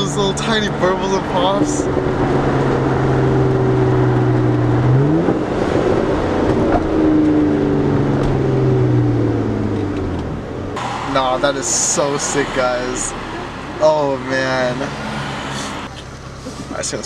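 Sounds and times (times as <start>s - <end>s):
car exhaust drone from cabin: 0.0s - 16.6s.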